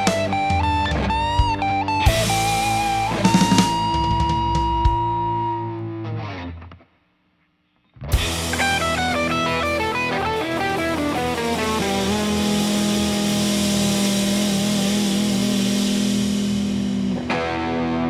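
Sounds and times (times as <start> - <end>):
electric guitar notes: 0.0 - 6.8, 8.1 - 18.0.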